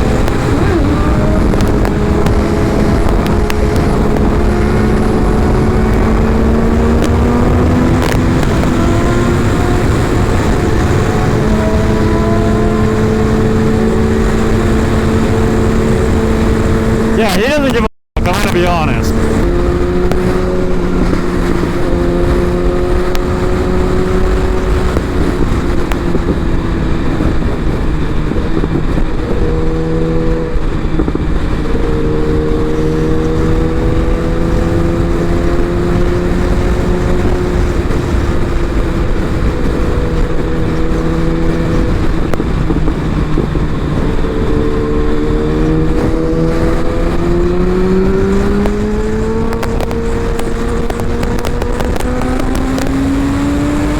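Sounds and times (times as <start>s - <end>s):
motorcycle engine cruising: 0.0s - 53.9s
wind noise: 0.0s - 53.9s.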